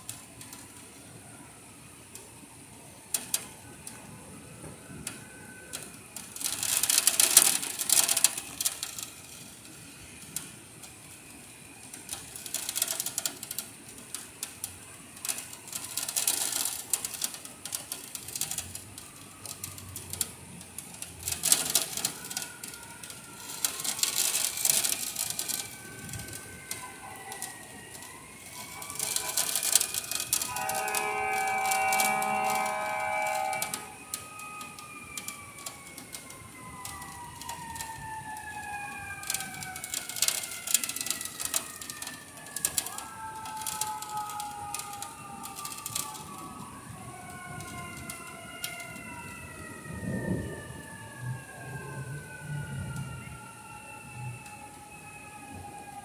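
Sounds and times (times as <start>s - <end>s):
hiss of rainfall: 0.0s - 55.9s
rain ticking on window ledge: 0.0s - 56.0s.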